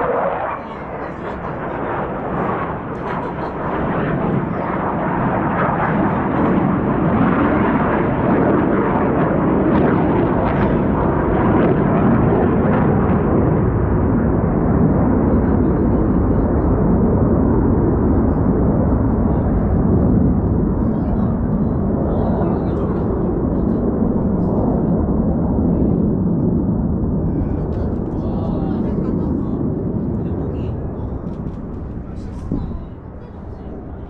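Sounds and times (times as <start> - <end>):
jet engine rushing: 0.0 - 34.0.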